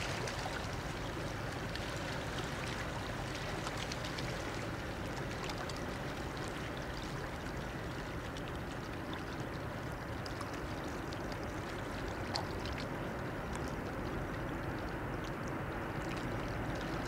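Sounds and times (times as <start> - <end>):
water lapping and splashing: 0.0 - 17.0.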